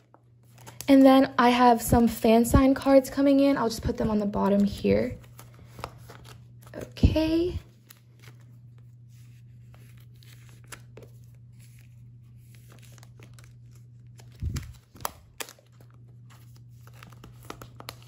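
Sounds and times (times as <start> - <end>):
plastic sleeves crinkling: 0.0 - 1.4, 3.6 - 18.0
steady low hum: 0.0 - 18.0.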